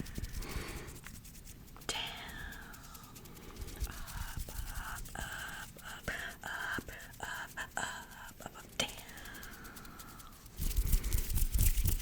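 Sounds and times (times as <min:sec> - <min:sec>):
hands rubbing skin: 0:00.0 - 0:12.0.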